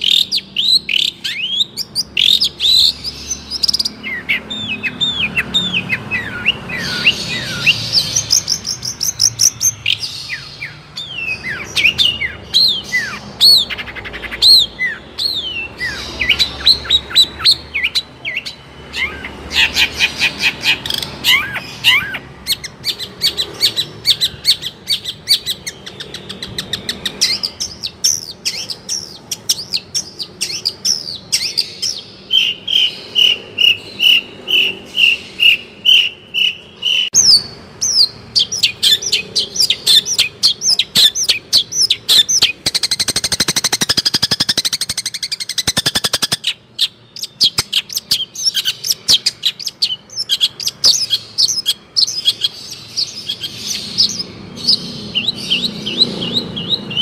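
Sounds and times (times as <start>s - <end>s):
bird singing sharp chirps: 0.0s - 57.0s.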